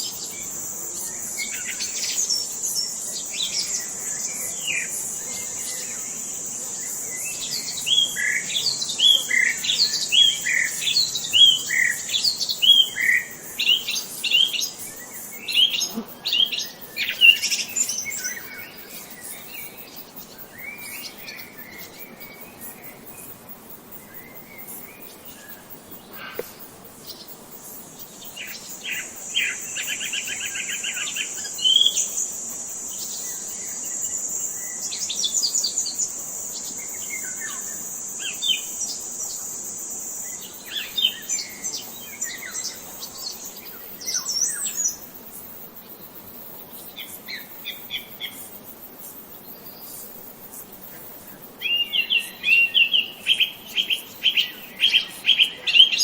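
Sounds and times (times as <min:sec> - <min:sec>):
songbirds chirping and calling: 0:00.0 - 0:39.6, 0:49.2 - 0:56.0.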